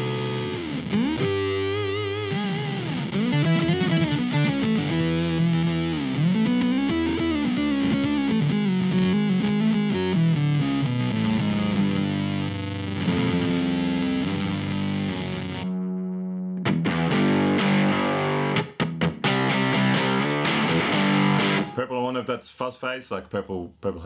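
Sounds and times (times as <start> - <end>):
distorted electric guitar: 0.0 - 21.8.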